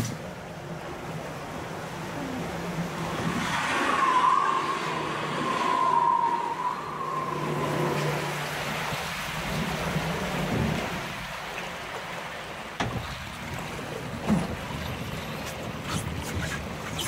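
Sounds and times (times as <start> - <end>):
water rushing along channel: 0.0 - 17.0.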